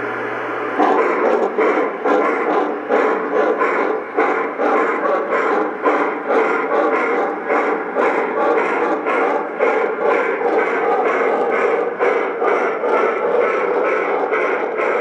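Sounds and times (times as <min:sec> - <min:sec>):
electronic steam chuffing: 0:00.0 - 0:15.0.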